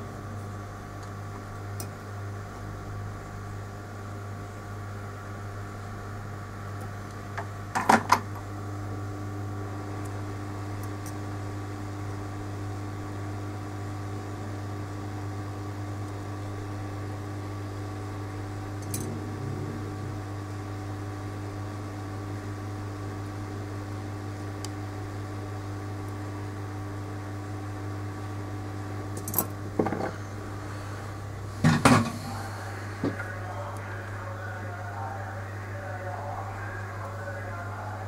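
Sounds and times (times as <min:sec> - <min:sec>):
electrical hum: 0:00.0 - 0:38.0.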